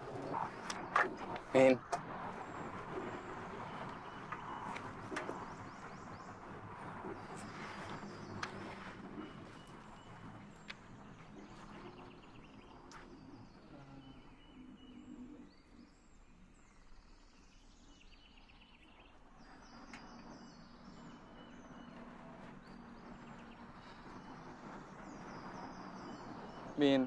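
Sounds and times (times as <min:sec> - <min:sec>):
low steady background hum: 0:00.0 - 0:27.0
small birds chirping: 0:00.0 - 0:27.0.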